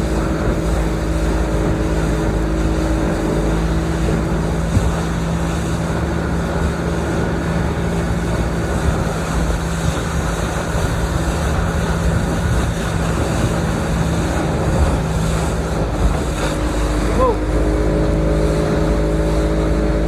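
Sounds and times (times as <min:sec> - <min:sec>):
motorboat engine humming: 0:00.0 - 0:20.0
rush of wind and water: 0:00.0 - 0:20.0.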